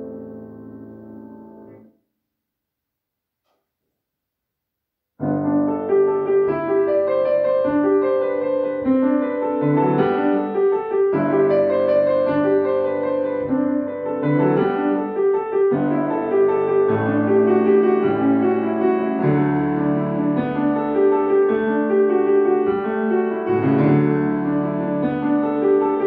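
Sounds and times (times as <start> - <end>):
grand piano playing: 0.0 - 1.9, 5.2 - 26.0.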